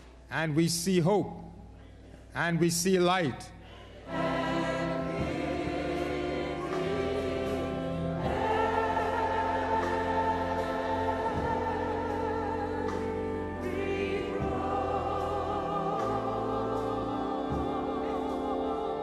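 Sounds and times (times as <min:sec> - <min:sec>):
choir singing a hymn: 0:03.7 - 0:19.0.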